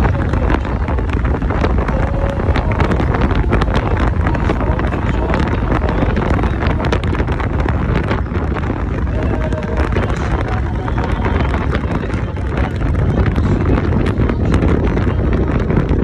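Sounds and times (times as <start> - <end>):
low vehicle rumble: 0.0 - 16.0
wind buffeting microphone: 0.0 - 16.0.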